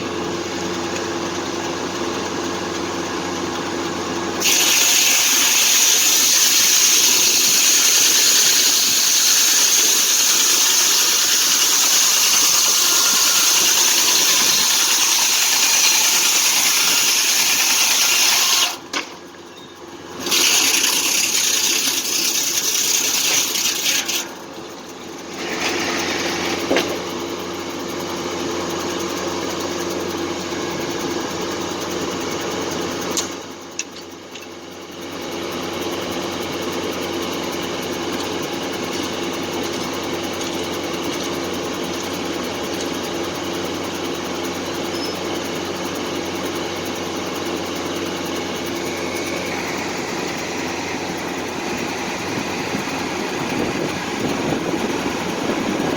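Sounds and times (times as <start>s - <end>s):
circular sawmill humming: 0.0s - 55.9s.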